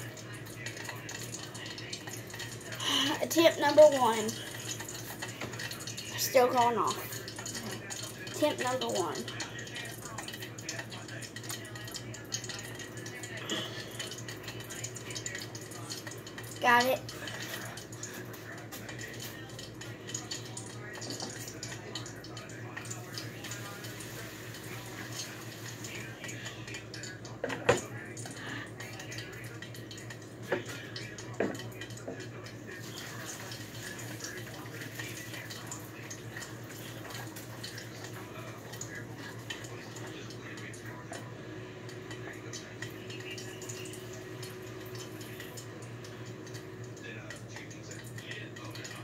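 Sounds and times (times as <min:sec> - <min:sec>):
hot oil crackling and popping: 0:00.0 - 0:49.0.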